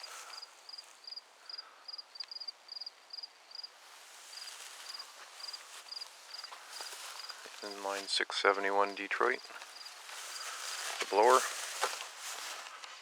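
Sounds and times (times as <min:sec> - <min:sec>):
cricket chirping: 0:00.0 - 0:08.0, 0:09.2 - 0:12.7.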